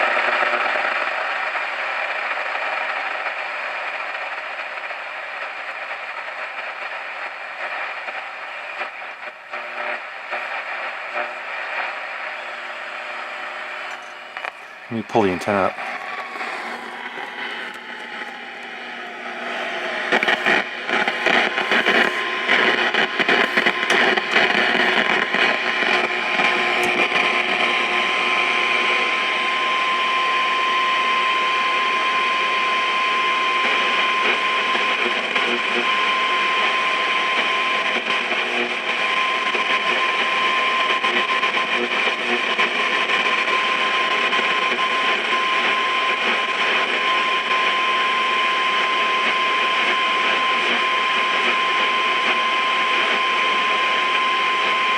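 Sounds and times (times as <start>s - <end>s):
radio static crackling and hissing: 0.1s - 54.9s.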